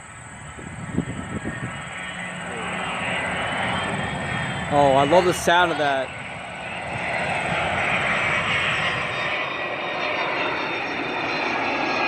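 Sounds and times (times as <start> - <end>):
jet plane passing overhead: 0.0 - 12.0.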